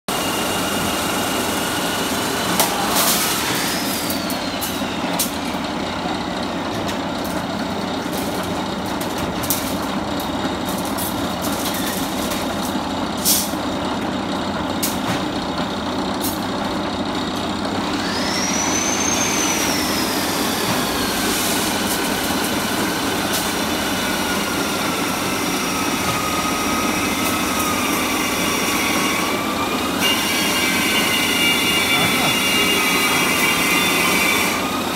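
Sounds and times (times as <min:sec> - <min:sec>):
rebar cutting machine running: 0:00.1 - 0:34.9.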